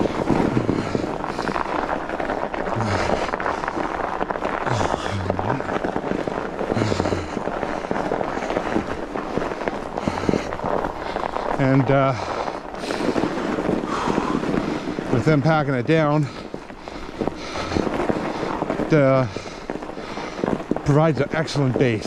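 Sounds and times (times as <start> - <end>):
rider breathing hard: 0.0 - 15.3, 16.0 - 20.8
tyres crunching over snow: 0.0 - 22.0.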